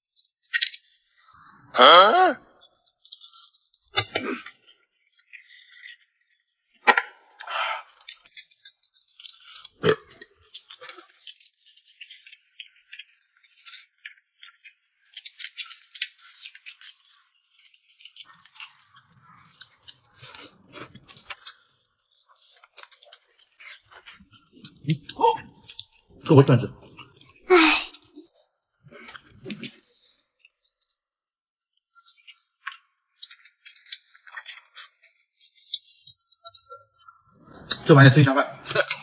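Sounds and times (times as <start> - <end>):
chewing: 2.6 - 31.0, 31.7 - 39.0.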